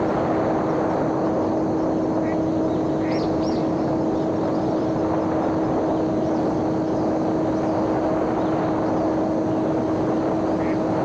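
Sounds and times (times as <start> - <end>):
model airplane motor humming: 0.0 - 11.0
wind noise: 0.0 - 11.0.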